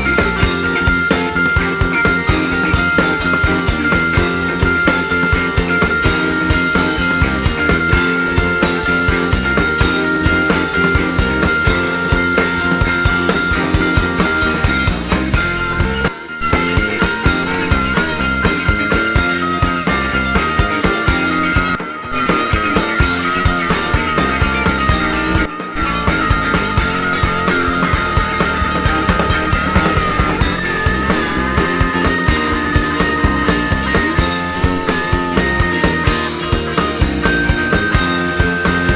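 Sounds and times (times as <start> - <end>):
lead guitar long held note: 0.0 - 38.9
rock band playing live: 0.0 - 38.9.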